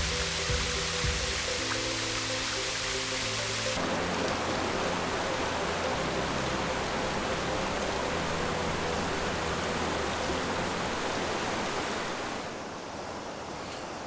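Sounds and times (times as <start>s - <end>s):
stream rapids and waterfall rushing: 0.0s - 14.0s.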